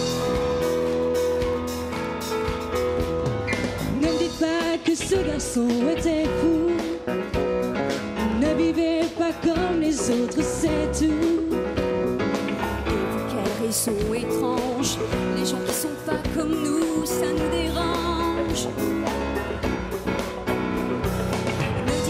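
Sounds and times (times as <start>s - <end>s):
live pop band playing: 0.0s - 22.0s.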